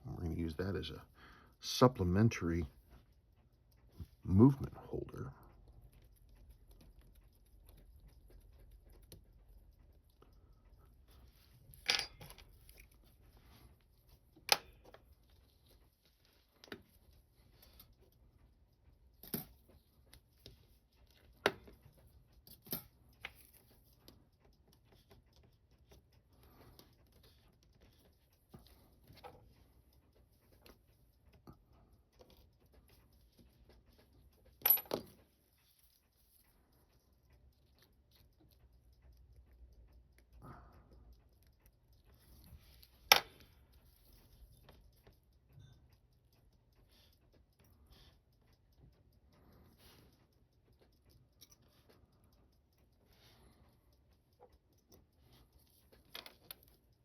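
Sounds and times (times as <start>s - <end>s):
watchmaking tools clicking: 0.0s - 57.0s.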